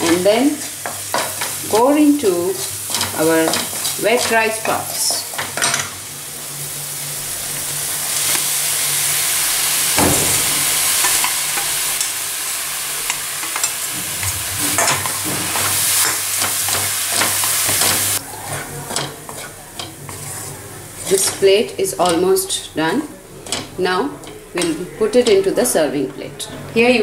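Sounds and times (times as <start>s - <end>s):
food sizzling in a pan: 0.0s - 25.8s.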